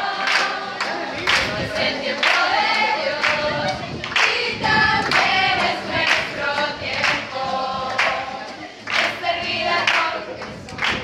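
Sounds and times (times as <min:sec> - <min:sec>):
group singing in chorus: 0:00.0 - 0:11.0
people clapping along: 0:00.0 - 0:11.0.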